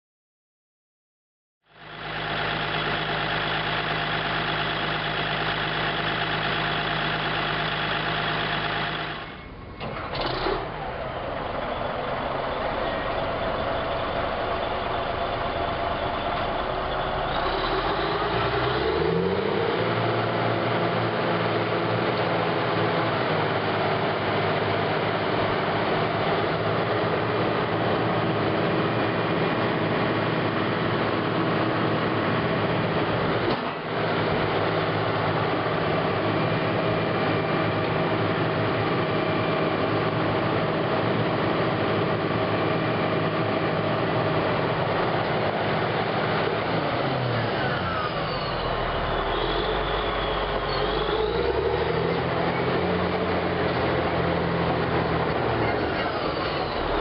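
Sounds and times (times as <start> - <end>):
bulldozer diesel engine running: 1.7 - 57.0.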